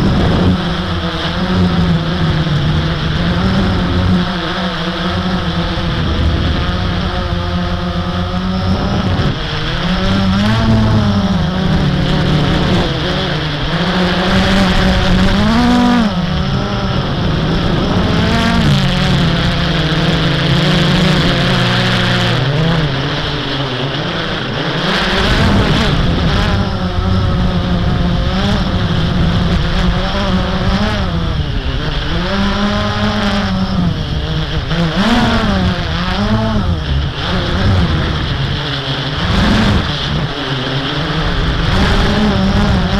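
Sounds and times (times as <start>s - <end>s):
quadcopter propellers whirring: 0.0s - 42.9s.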